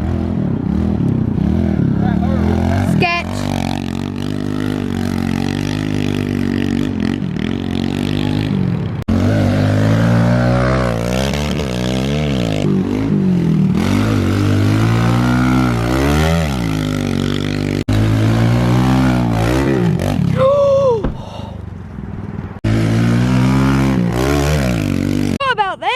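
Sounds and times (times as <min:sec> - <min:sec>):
motorcycle engine revving: 0:00.0 - 0:21.2, 0:21.8 - 0:25.5.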